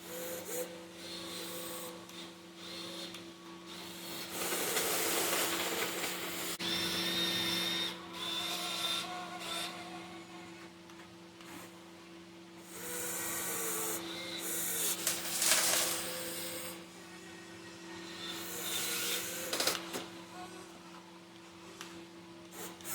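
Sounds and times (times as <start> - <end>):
small electric motors whirring: 0.0 - 10.5, 12.6 - 20.8, 22.5 - 22.9.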